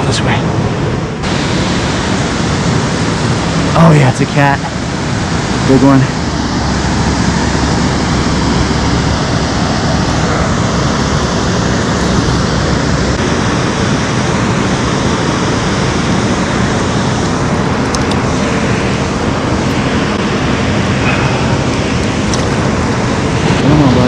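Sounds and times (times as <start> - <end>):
water rushing below a dam: 0.0 - 24.0.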